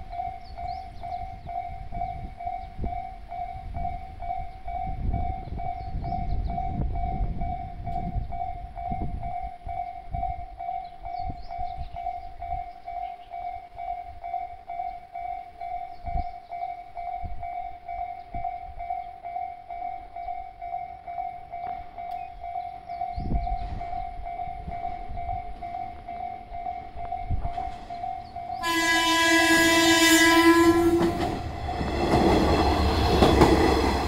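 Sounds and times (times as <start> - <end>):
level crossing alarm bell: 0.0 - 34.0.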